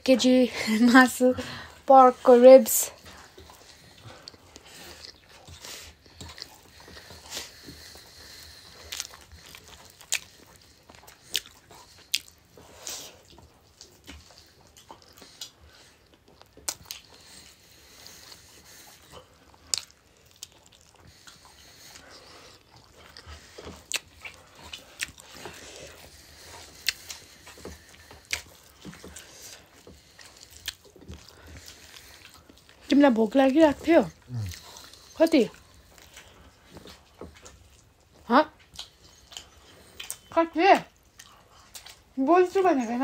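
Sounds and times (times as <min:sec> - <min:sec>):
chewing and wet mouth smacks: 0:03.0 - 0:42.2.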